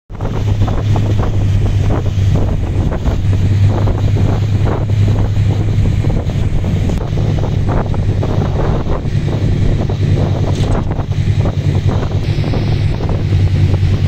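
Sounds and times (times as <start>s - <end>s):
boat engine humming: 0.1s - 14.0s
wind buffeting microphone: 0.1s - 14.0s.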